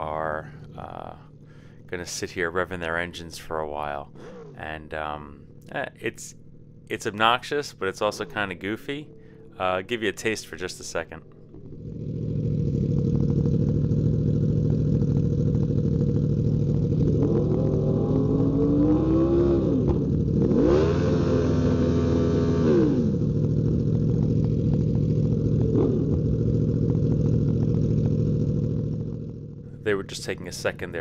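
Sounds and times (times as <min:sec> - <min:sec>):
motorcycle engines revving: 0:00.0 - 0:04.8, 0:05.4 - 0:31.0
motorcycle engines idling: 0:00.0 - 0:31.0.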